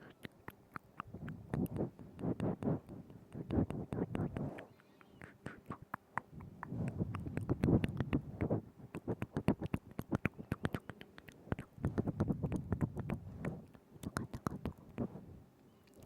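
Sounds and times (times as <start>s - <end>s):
wet mouth clicks and smacks: 0.0s - 15.1s.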